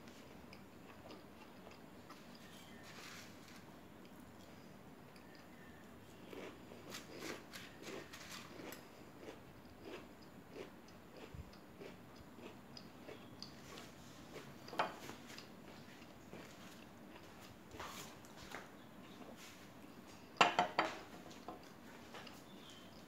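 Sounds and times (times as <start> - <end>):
person chewing crunchy food: 0.0 - 20.3.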